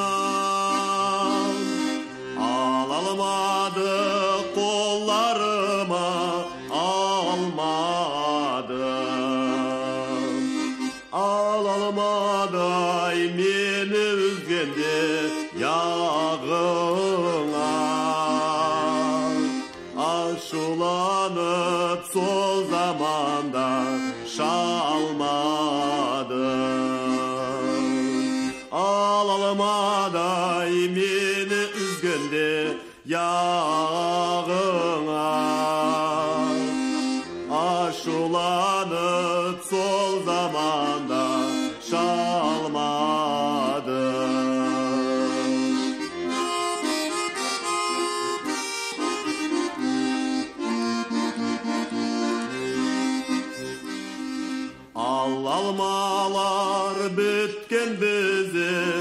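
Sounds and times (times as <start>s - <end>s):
person singing folk melody: 0.0s - 59.0s
sustained accompaniment: 0.0s - 59.0s.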